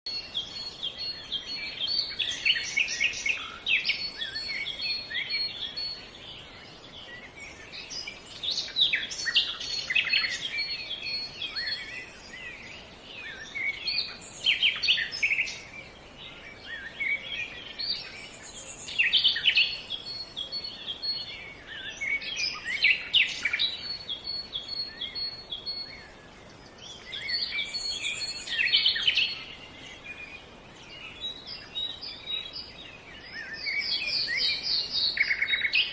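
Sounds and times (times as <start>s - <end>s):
faint outdoor hiss: 0.1s - 35.9s
songbirds twittering: 0.1s - 35.9s.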